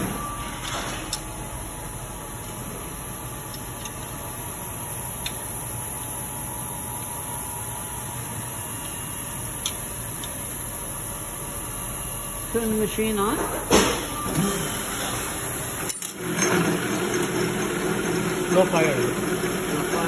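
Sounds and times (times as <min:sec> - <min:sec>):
machinery hum and hiss: 0:00.0 - 0:20.0.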